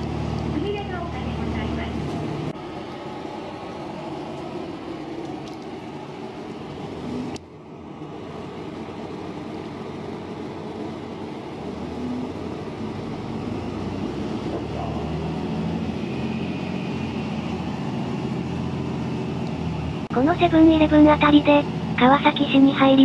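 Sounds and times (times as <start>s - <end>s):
bus engine: 0.0s - 23.0s
road noise: 0.0s - 23.0s.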